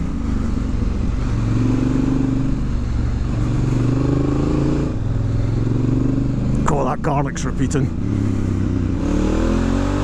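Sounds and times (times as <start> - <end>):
motorcycle engine accelerating: 0.0 - 6.9, 7.5 - 10.0.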